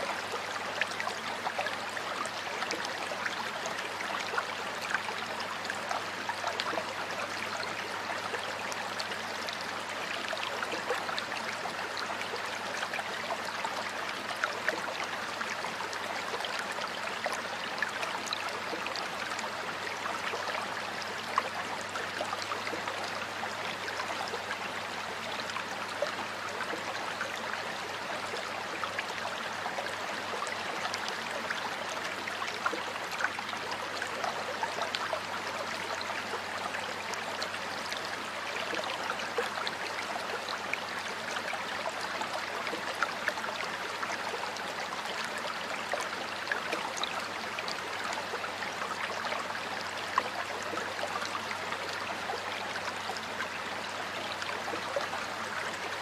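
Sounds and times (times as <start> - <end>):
stream of water flowing: 0.0 - 56.0.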